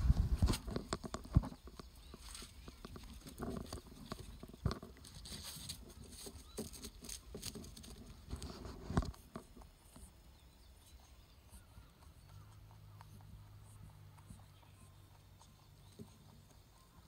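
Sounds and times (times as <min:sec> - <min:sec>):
rabbit gnawing and chewing: 0:00.0 - 0:17.0.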